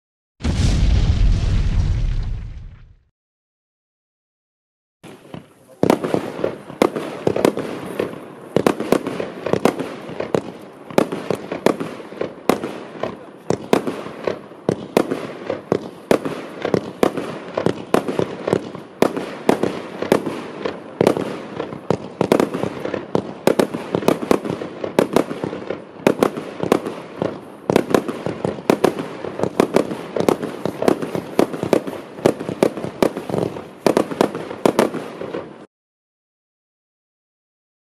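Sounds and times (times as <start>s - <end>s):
fireworks launching and bursting: 0.4s - 3.1s, 5.0s - 35.7s.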